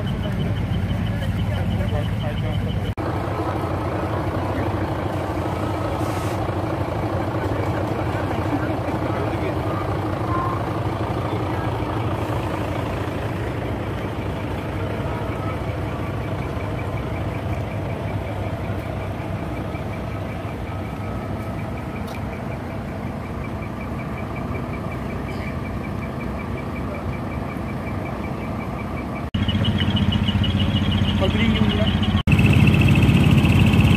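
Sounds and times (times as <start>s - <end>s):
large truck engine idling: 0.0s - 33.9s.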